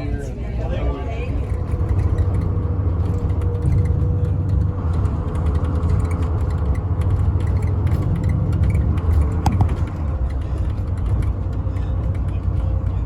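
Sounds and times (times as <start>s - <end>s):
train clicks and rattles: 1.1s - 13.0s.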